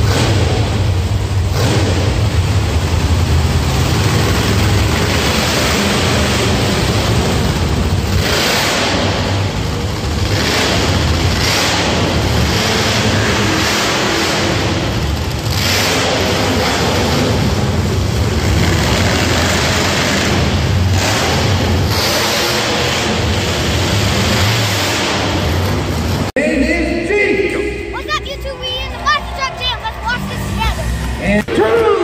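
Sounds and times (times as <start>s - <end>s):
truck engines revving: 0.0s - 32.0s.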